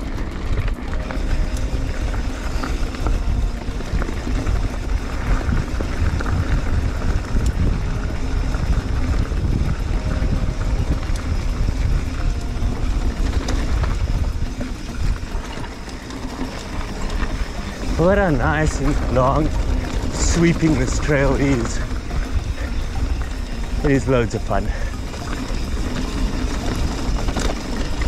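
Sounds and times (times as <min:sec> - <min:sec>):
bike clicks and rattles: 0:00.0 - 0:28.0
bike tyres on dirt trail: 0:00.0 - 0:28.0
wind buffeting microphone: 0:00.0 - 0:28.0.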